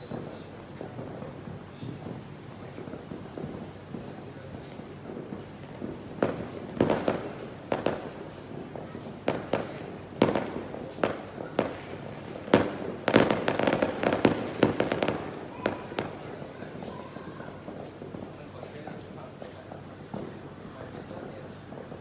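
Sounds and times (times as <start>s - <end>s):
firecrackers popping: 0.0s - 22.0s
firework bangs: 0.0s - 22.0s.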